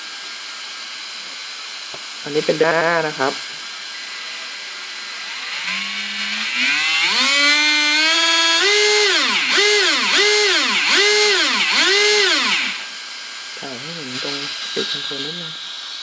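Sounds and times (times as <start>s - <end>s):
electric motor whine: 0.0s - 16.0s.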